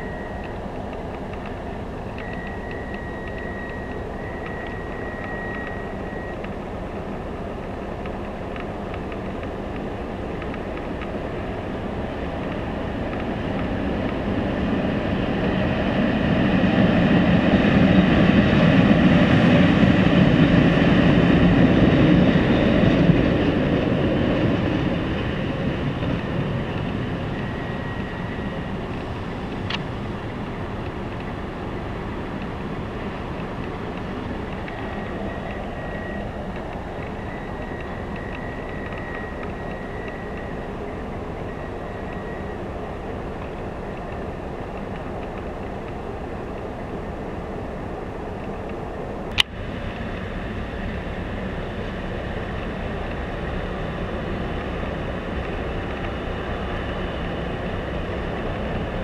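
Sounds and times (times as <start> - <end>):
electric locomotives rumbling past: 0.0 - 59.0
thin steady whine: 0.0 - 59.0.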